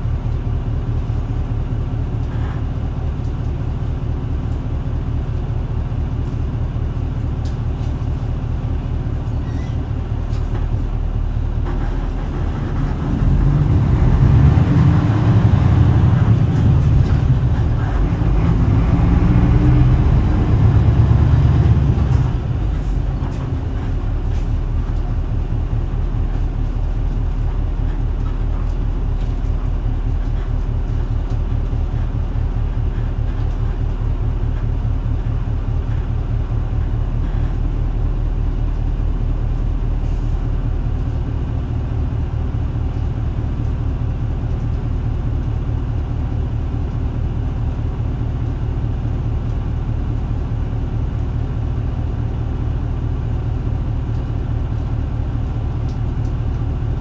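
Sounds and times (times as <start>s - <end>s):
bus diesel engine idling: 0.0s - 57.0s.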